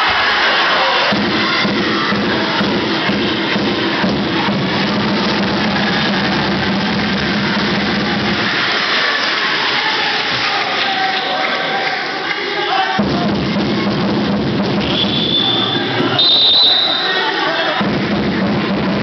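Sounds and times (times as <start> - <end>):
crowd noise in large hall: 0.0 - 19.0.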